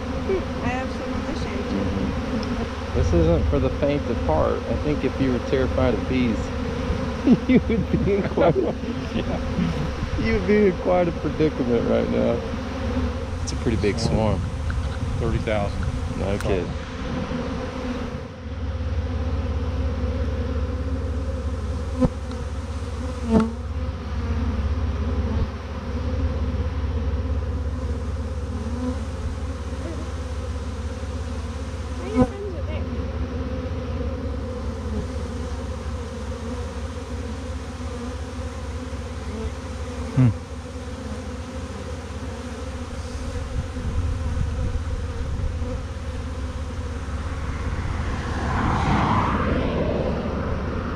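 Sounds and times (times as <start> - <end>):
bee swarm buzzing: 0.0 - 50.9.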